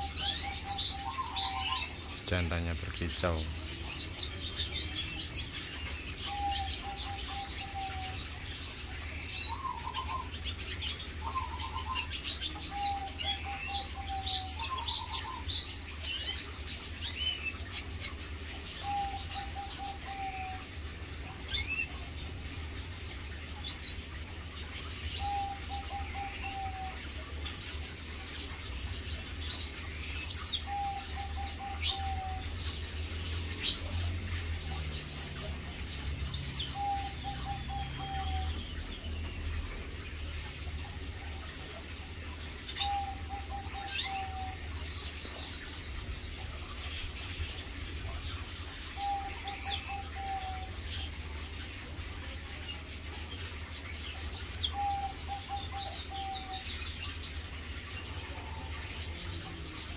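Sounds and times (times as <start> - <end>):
songbird twittering and trilling: 0.0 - 59.9.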